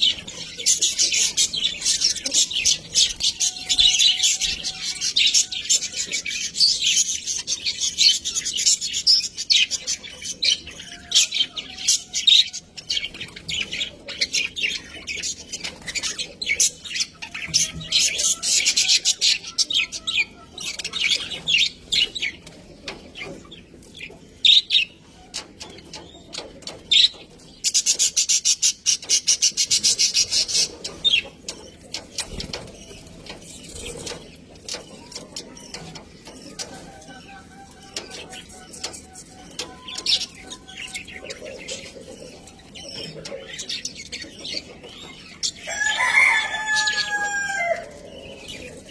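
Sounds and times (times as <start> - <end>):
budgerigars chattering and chirping: 0.0 - 48.9.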